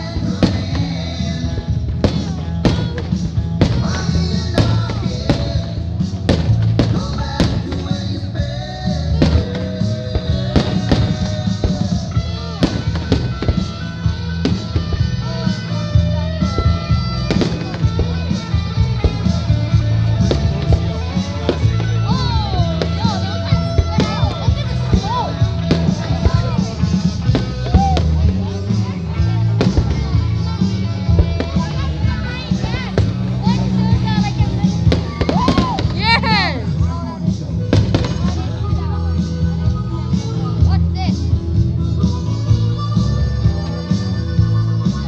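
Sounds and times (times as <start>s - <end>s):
fireworks bangs and crackles: 0.0s - 40.3s
loud music with singing and bass: 0.0s - 45.0s.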